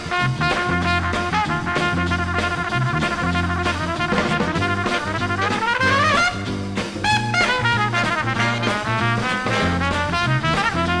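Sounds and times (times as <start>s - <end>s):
bass and drums: 0.0s - 11.0s
big band swing music: 0.0s - 11.0s
brass section: 0.0s - 11.0s.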